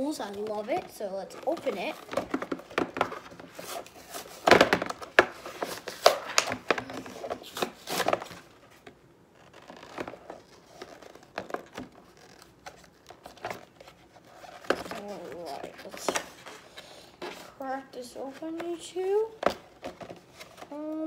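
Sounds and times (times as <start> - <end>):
packaging crinkling and tearing: 0.0 - 17.5.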